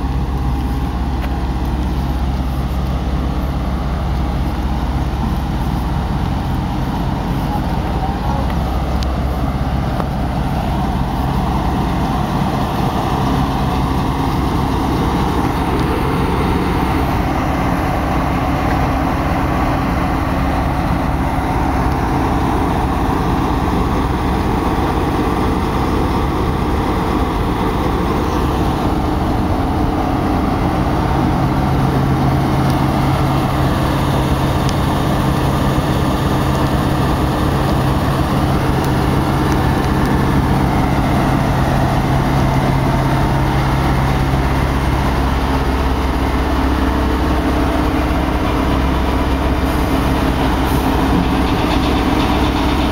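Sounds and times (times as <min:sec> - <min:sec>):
diesel locomotive engine idling: 0:00.0 - 0:52.9.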